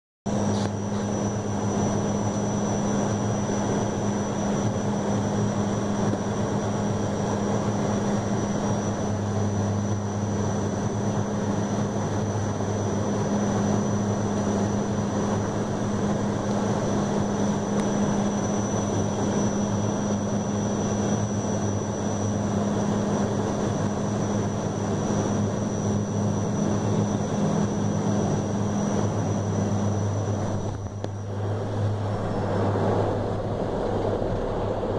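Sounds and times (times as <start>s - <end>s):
airliner engine drone in cabin: 0.3s - 34.9s.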